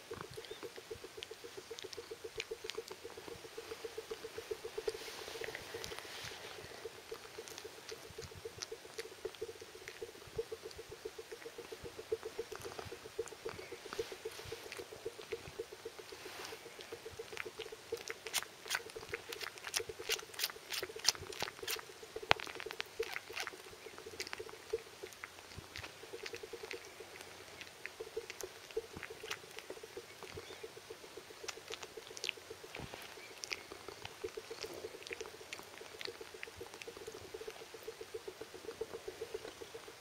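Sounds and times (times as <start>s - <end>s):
cat wet sucking clicks: 0.0s - 40.0s.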